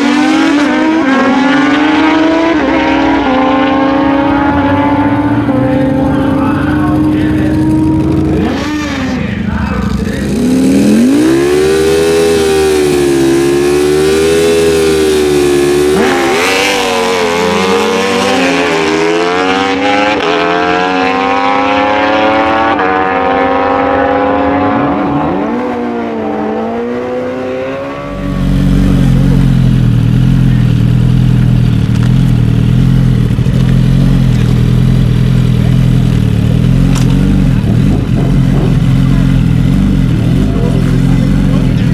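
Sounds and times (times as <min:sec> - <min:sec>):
motorcycles revving and accelerating: 0:00.0 - 0:41.9.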